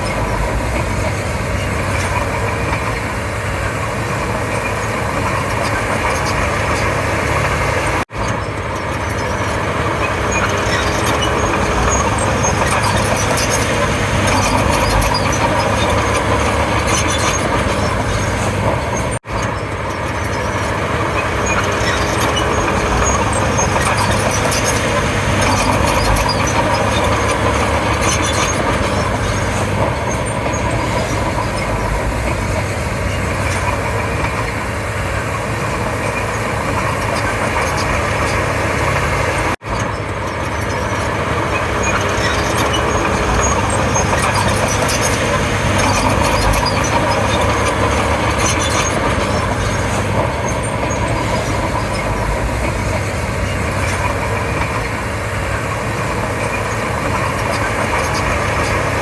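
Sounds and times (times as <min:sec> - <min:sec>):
bulldozer diesel engine: 0:00.0 - 0:59.0.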